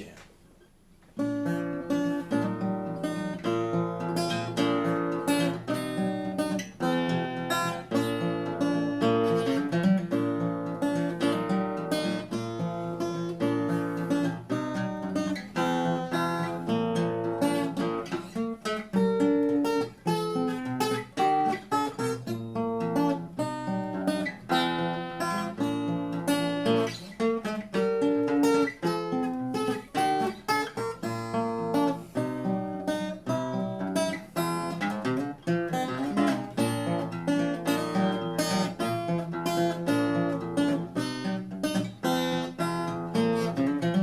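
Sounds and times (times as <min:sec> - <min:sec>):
fingerpicked acoustic guitar: 0:00.0 - 0:44.0.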